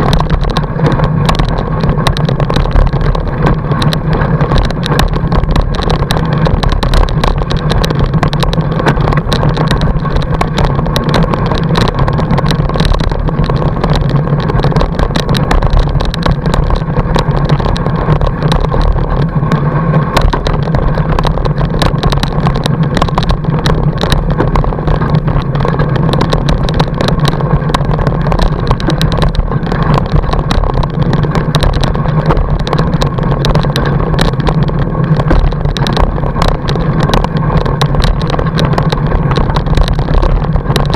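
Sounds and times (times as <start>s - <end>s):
bike tyre rolling over snow: 0.0s - 40.9s
small rattling clicks: 0.0s - 40.9s.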